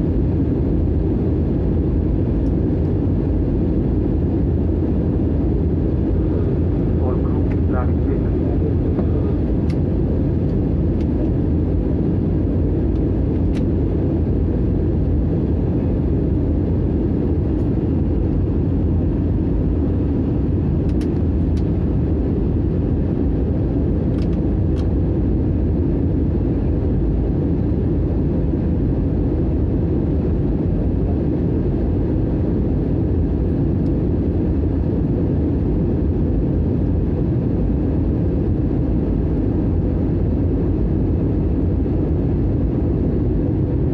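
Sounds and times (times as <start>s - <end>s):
airliner cabin engine noise: 0.0s - 43.9s.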